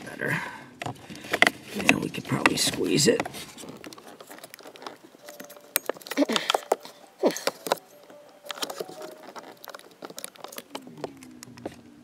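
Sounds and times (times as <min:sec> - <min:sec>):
plastic and metal clicking and rattling: 0:00.7 - 0:12.0.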